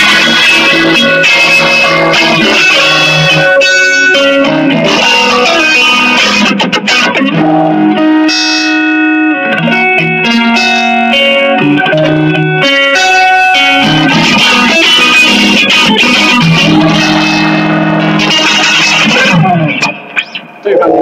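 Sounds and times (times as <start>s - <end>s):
electric guitar notes and chords: 0.0s - 21.0s.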